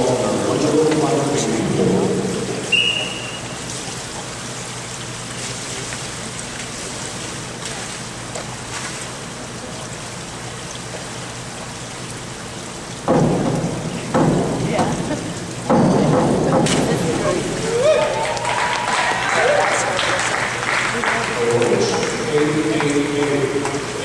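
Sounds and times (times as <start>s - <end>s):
water rushing and trickling: 0.0s - 24.0s.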